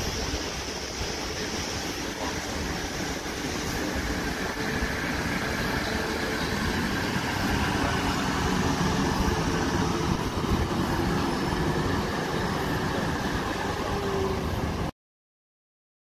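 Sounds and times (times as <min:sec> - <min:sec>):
train wheels rumbling: 0:00.0 - 0:14.9.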